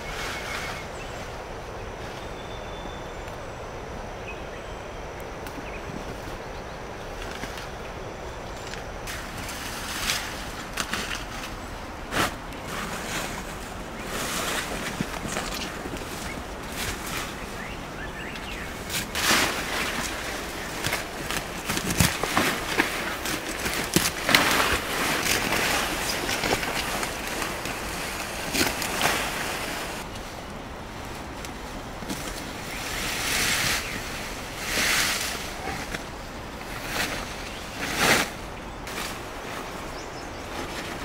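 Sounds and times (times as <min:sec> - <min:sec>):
vines and grass rustling: 0:00.0 - 0:41.0.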